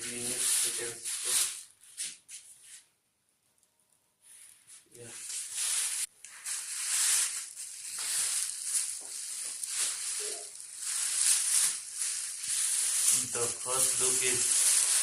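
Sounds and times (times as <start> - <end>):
packaging rustling and crinkling: 0.0 - 1.7, 4.4 - 15.0.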